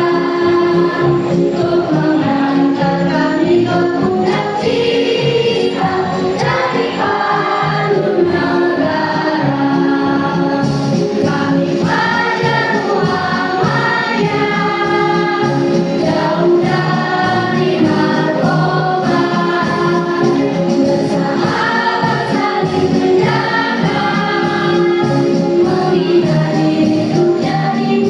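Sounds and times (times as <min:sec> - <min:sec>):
choir singing in harmony: 0:00.0 - 0:28.0
musical accompaniment with beat: 0:00.0 - 0:28.0.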